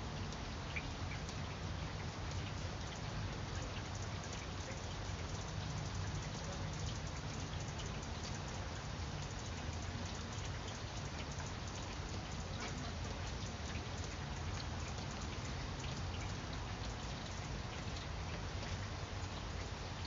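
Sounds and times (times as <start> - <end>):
low steady rumble: 0.0 - 20.0
rain on leaves: 0.0 - 20.0.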